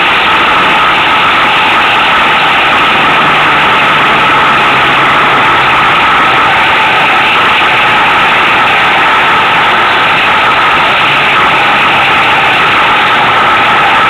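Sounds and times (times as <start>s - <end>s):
vehicle engine and road noise: 0.0s - 14.0s
low engine hum: 0.2s - 14.0s.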